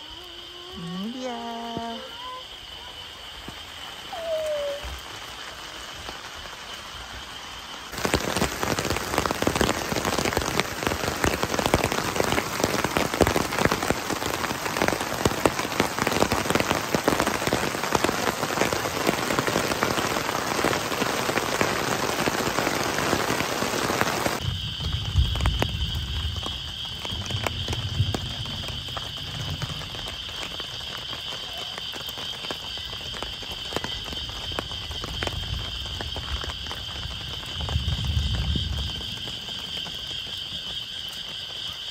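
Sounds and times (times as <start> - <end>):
heavy rain pattering: 0.0 - 41.9
light rain: 0.0 - 41.9.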